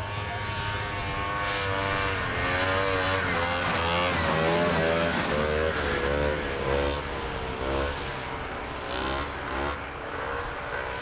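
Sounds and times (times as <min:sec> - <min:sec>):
snowmobile engines revving: 0:00.0 - 0:11.0.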